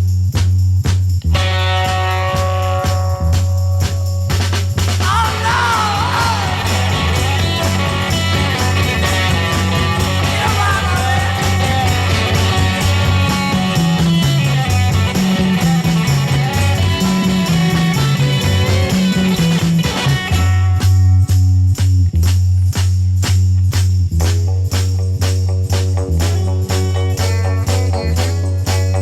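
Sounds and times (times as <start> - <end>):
bass line: 0.0 - 29.0
garage rock guitar: 1.3 - 21.7, 24.5 - 29.0.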